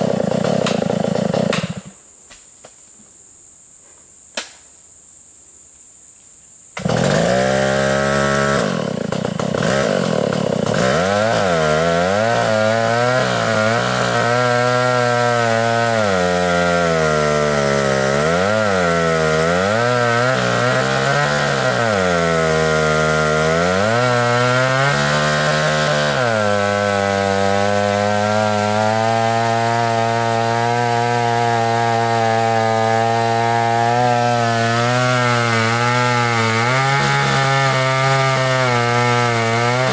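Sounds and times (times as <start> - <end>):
chainsaw cutting: 0.0 - 2.0, 6.8 - 39.9.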